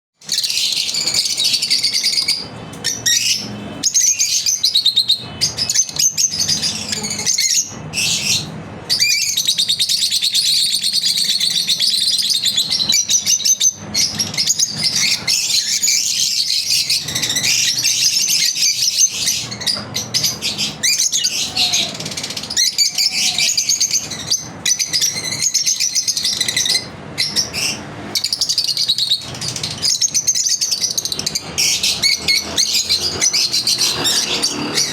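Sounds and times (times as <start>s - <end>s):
lovebirds chirping: 0.2s - 34.9s.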